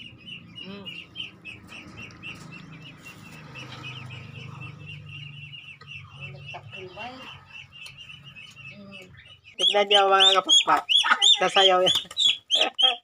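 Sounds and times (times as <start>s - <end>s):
lower bird call: 0.0s - 11.4s
birds chirping fast: 0.0s - 13.0s.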